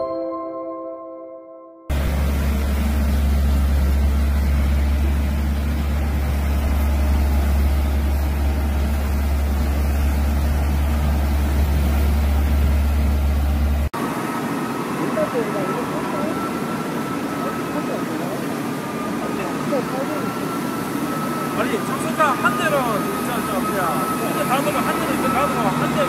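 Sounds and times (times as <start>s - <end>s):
road sweeper engine drone: 1.9s - 26.0s.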